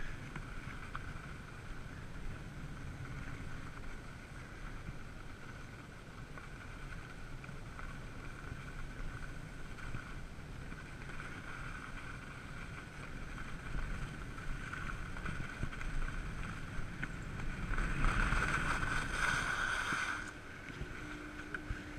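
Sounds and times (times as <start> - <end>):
skis running over snow: 0.0 - 21.9
skis scraping to a stop: 0.0 - 21.9.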